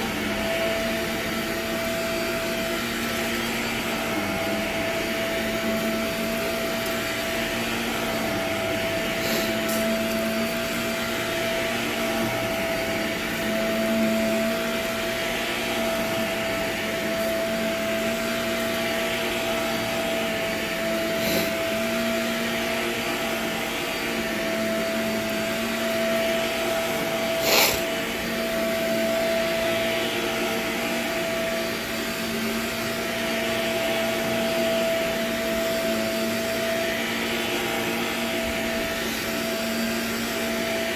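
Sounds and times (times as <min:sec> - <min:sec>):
grit crunching in vacuum: 0:00.0 - 0:40.9
vacuum cleaner motor whining: 0:00.0 - 0:40.9.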